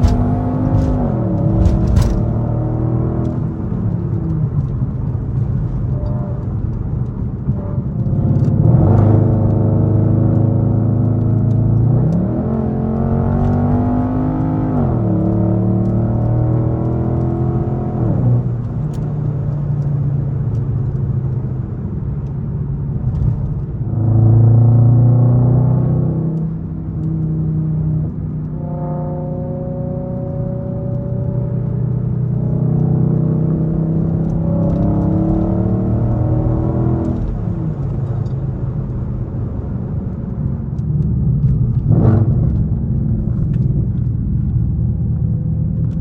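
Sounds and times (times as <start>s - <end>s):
loud deep car exhaust drone: 0.0s - 18.8s, 22.0s - 46.0s.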